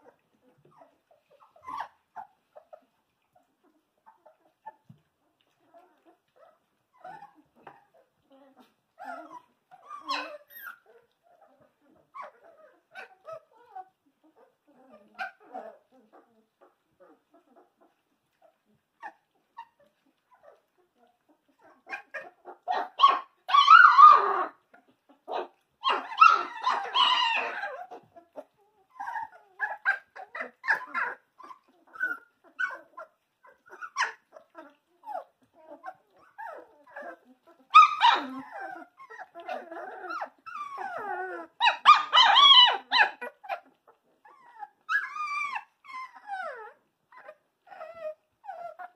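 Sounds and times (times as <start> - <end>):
puppies squeaking and yelping: 0.0 - 48.9.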